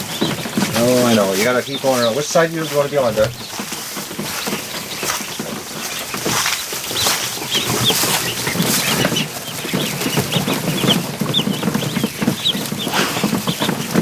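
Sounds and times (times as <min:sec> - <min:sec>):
ducklings peeping: 0:00.0 - 0:14.0
ducklings scrambling rustle: 0:00.0 - 0:14.0.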